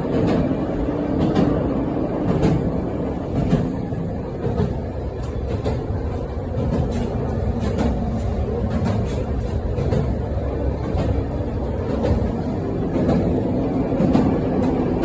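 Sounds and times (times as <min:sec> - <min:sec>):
train rumbling along track: 0:00.0 - 0:15.0
wheels clicking on rails: 0:00.0 - 0:15.0.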